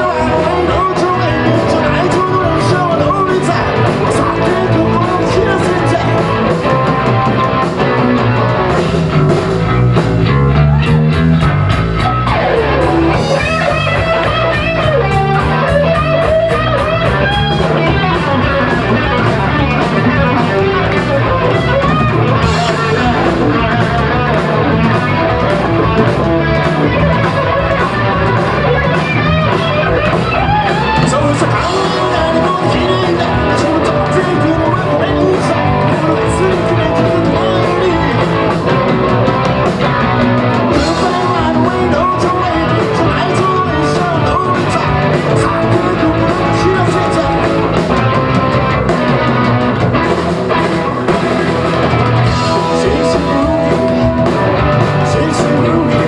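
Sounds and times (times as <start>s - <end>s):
electric guitar bending notes: 0.0s - 56.0s
rock band playing live: 0.0s - 56.0s.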